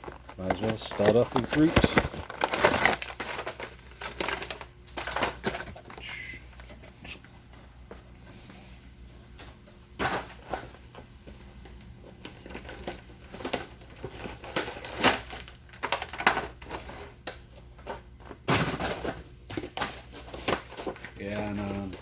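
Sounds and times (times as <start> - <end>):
plastic and cardboard packaging crinkling: 0.0 - 6.9, 9.3 - 22.0.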